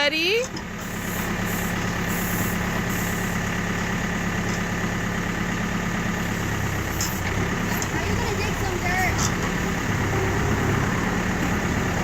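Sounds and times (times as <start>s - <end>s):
backhoe engine idling: 0.0s - 12.0s.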